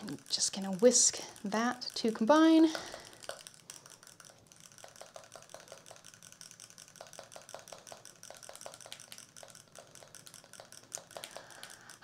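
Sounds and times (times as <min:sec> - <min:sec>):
metal whisk ticking against glass: 0:00.0 - 0:12.0.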